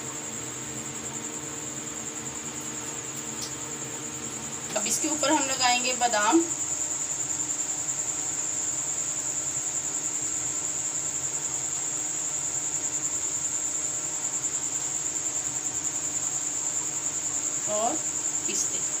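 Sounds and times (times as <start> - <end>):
insect trilling: 1.1 - 19.0.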